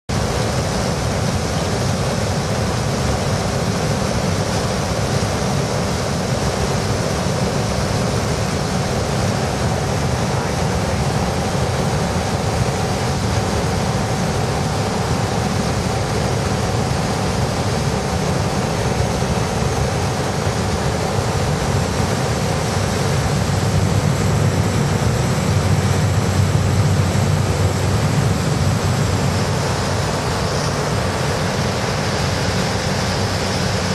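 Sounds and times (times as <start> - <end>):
turboprop engine and propeller drone: 0.0 - 33.9.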